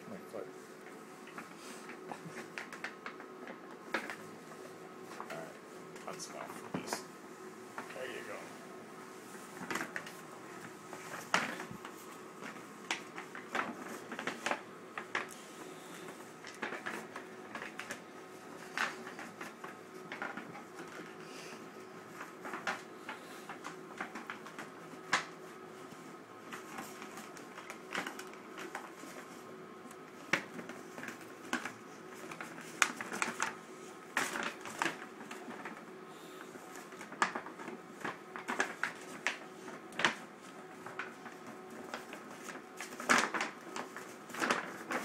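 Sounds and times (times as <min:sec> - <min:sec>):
paper bag crinkling: 0:07.8 - 0:45.0.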